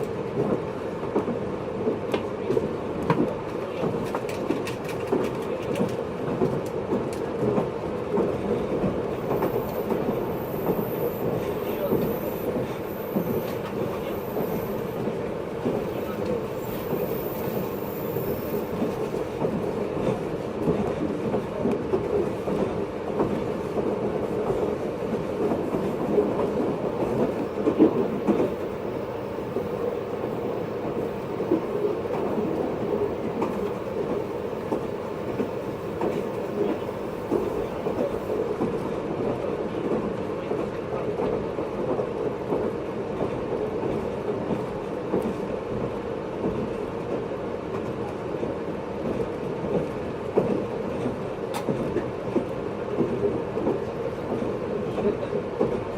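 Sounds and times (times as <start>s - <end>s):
train wheels on rail: 0.0s - 55.9s.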